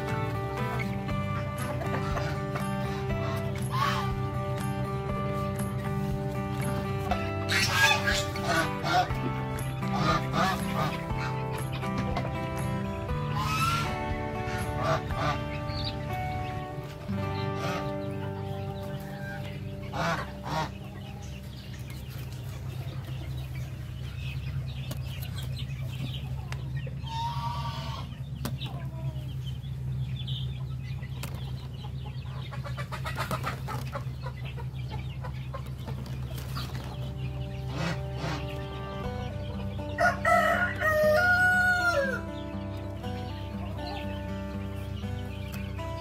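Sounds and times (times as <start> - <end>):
chickens clucking and calling: 0.0 - 46.0.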